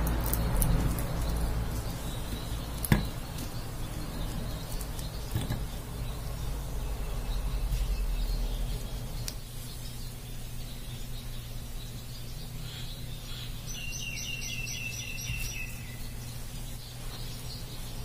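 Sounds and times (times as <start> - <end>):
steady low background hum: 0.0 - 18.0.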